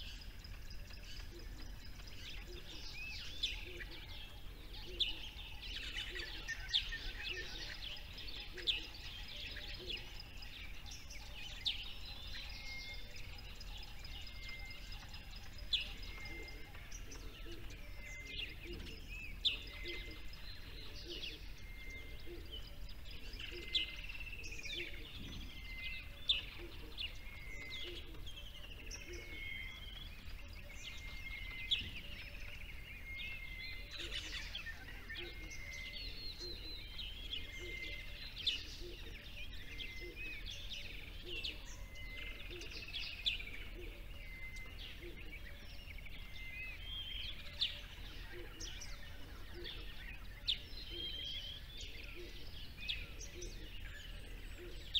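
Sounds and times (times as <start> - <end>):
small birds chirping and trilling: 0.0 - 54.9.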